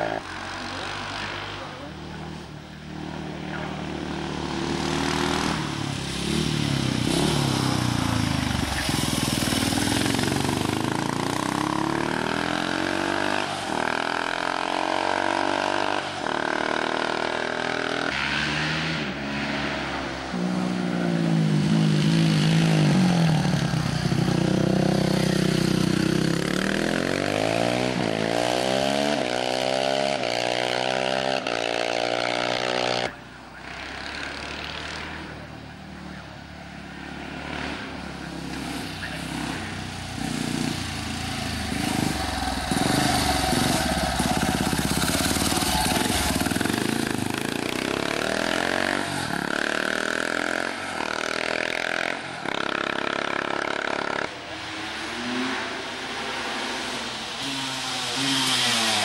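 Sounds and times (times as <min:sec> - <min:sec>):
racing motorcycle accelerating: 0:00.0 - 0:59.0.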